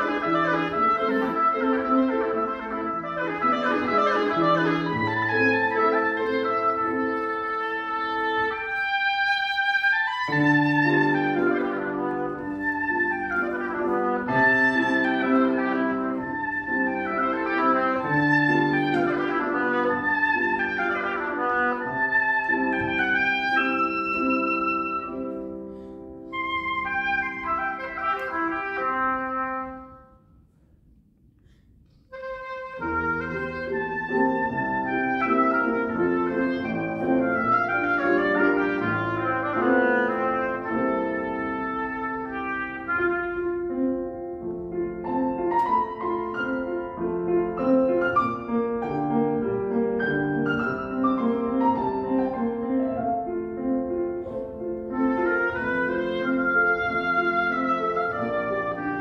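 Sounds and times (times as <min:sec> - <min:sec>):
oboe melody: 0:00.0 - 0:30.2, 0:32.1 - 0:59.0
piano chords: 0:00.0 - 0:31.0, 0:32.1 - 0:59.0.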